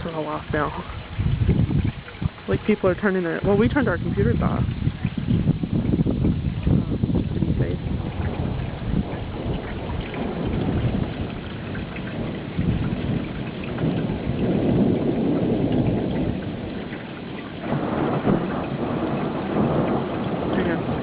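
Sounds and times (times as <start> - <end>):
rolling thunder: 0.0 - 21.0
wind-driven rain: 0.0 - 21.0.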